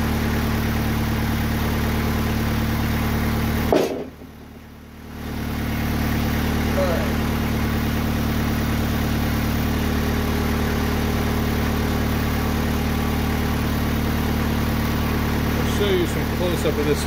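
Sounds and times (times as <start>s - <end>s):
gasoline engine idling: 0.0s - 17.0s.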